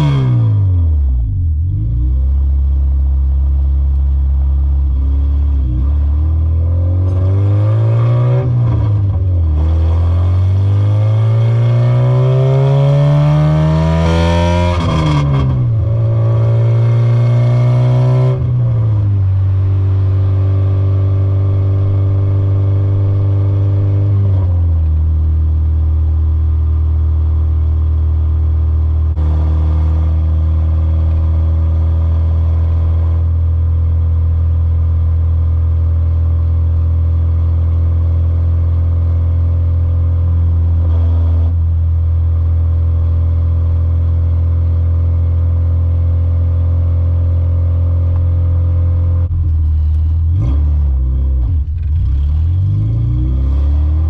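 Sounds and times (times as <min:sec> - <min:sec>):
car engine from inside cabin: 0:00.0 - 0:54.0
road drone: 0:00.0 - 0:54.0.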